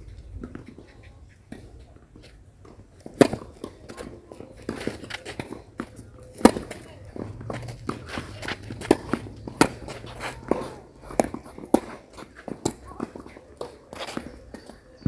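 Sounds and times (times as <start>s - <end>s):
tennis balls struck and bouncing: 2.6s - 14.9s.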